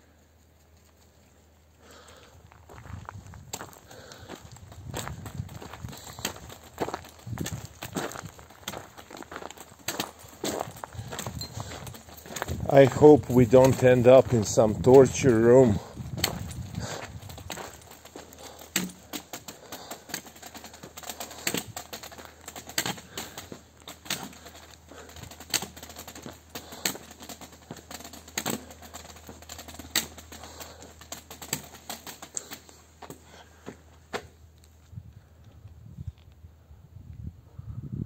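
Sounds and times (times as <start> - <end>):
footsteps clicking on stone path: 0.0 - 36.4.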